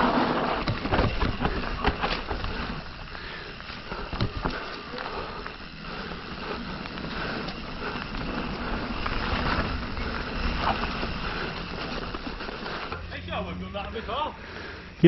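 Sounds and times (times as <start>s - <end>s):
bike tyres on dirt trail: 0.0s - 15.0s.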